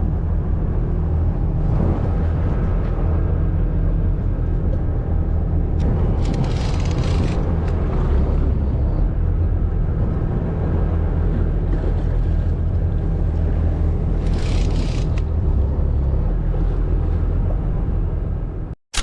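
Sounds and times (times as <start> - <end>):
boat engine humming: 0.0 - 18.8
water noise: 0.0 - 18.8
wind: 0.0 - 19.0.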